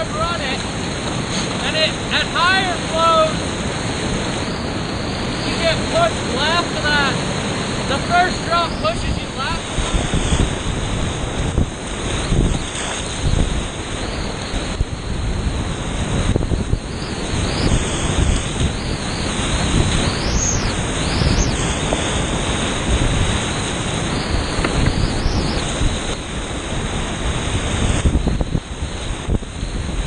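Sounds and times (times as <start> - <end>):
whitewater rapid roaring: 0.0 - 30.0.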